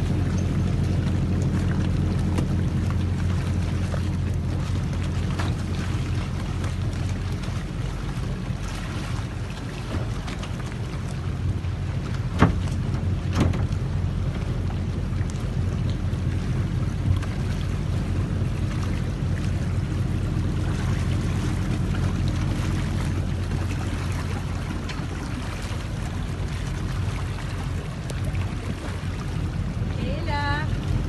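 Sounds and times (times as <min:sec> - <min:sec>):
boat engine humming: 0:00.0 - 0:31.0
water rushing: 0:00.0 - 0:31.0.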